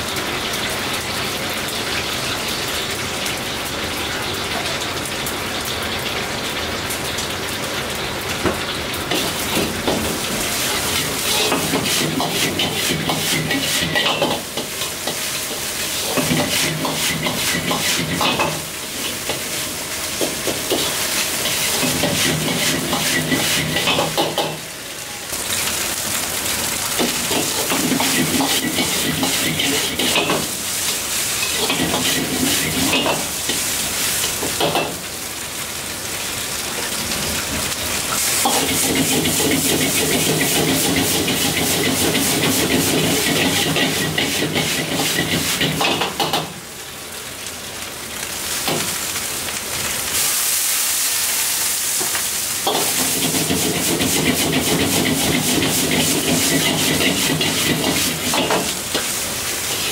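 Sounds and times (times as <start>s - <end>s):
steady sizzling: 0.0s - 59.9s.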